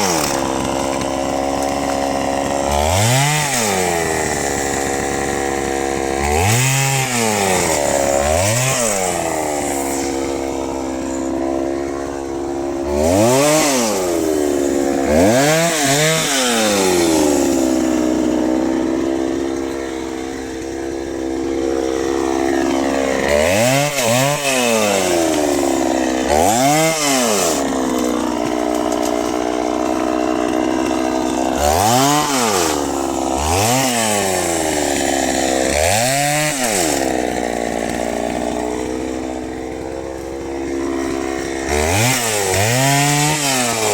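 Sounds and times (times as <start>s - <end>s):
chainsaw revving: 0.0s - 43.9s.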